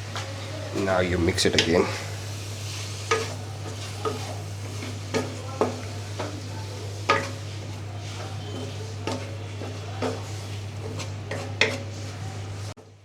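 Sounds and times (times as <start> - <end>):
light sizzling: 0.0 - 13.0
utensil scraping a pan: 0.8 - 13.0.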